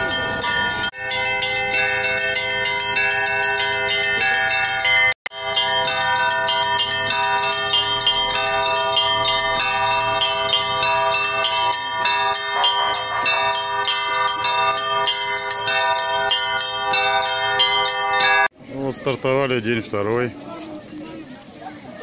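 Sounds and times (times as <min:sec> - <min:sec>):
church bells ringing rapidly: 0:00.0 - 0:18.5.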